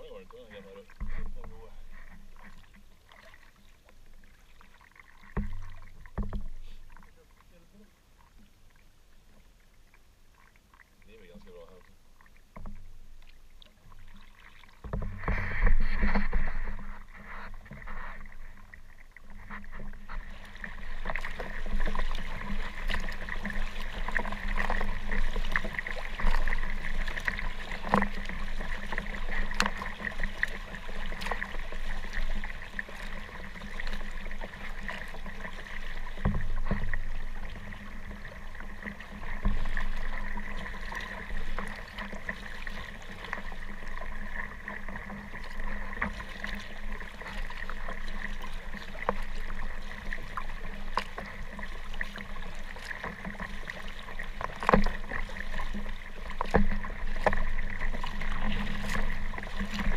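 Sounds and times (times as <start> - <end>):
water splashing around kayak: 0.0 - 59.9
sharp splashes and knocks: 5.1 - 6.9, 12.5 - 59.9.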